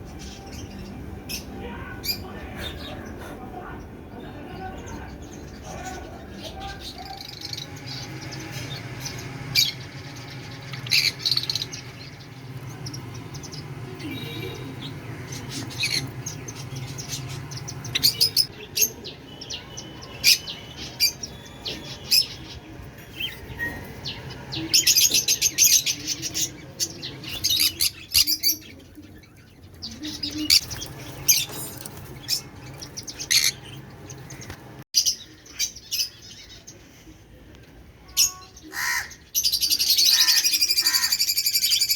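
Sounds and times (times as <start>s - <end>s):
aviary birds chirping: 0.0s - 41.9s.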